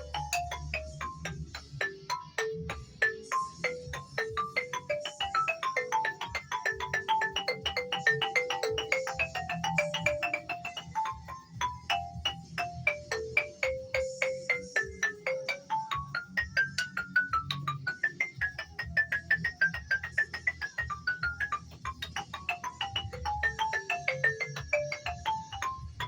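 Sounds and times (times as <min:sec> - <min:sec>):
marimba-like fast melodic runs: 0:00.0 - 0:26.0.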